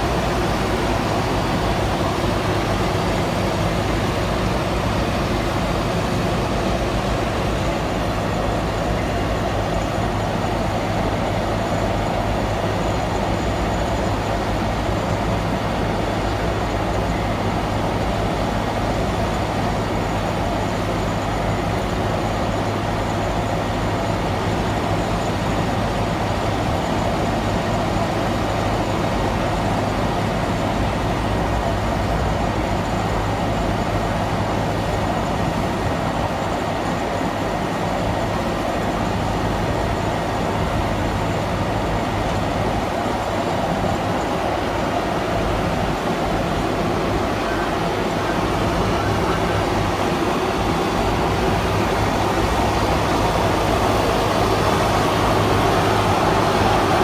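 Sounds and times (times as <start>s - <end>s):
diesel engine and hydraulics drone: 0.0s - 57.0s.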